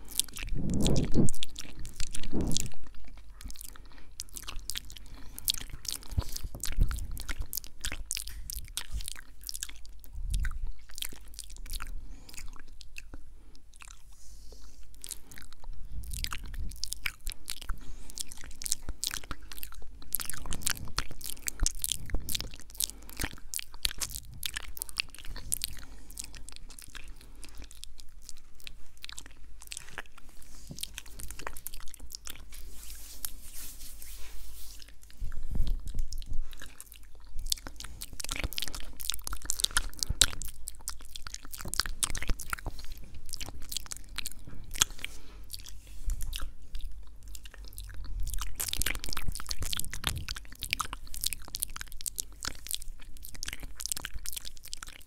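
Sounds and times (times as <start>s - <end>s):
wet tongue and lip clicks: 0.0s - 33.4s, 34.0s - 55.0s.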